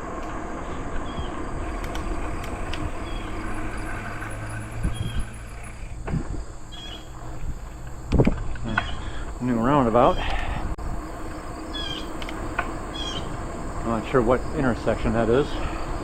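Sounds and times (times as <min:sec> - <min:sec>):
bicycle tyres on trail: 0:00.0 - 0:16.0
insect trill: 0:00.0 - 0:16.0
wind rush: 0:00.0 - 0:16.0.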